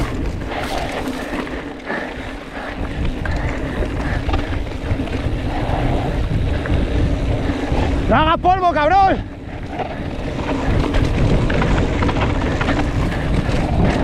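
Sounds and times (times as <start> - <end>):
bike rattling over bumps: 0.0 - 14.0
bike tyres rolling over dirt: 0.0 - 14.0
wind rushing over microphone: 0.0 - 14.0.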